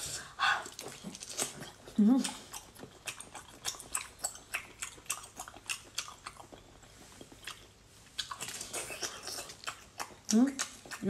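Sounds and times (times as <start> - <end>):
wet chewing: 0.6 - 11.0.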